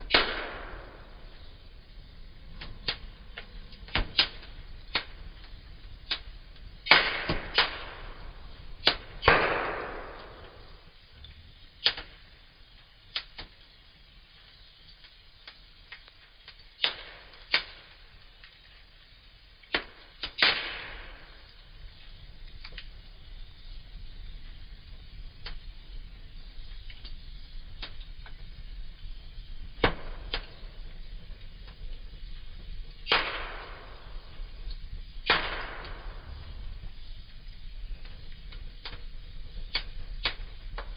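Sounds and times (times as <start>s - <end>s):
hiss from fire: 0.0s - 40.9s
wood fire crackling: 0.0s - 40.9s.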